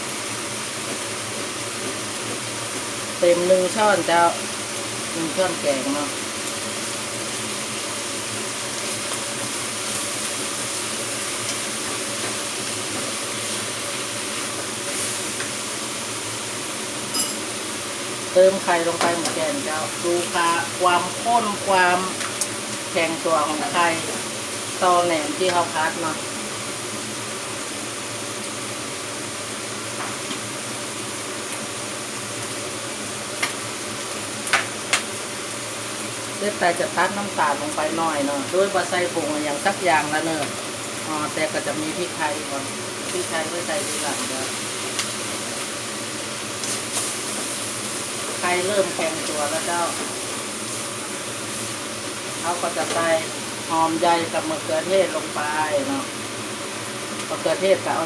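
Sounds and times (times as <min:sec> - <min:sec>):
food sizzling in a hot pan: 0:00.0 - 0:58.0.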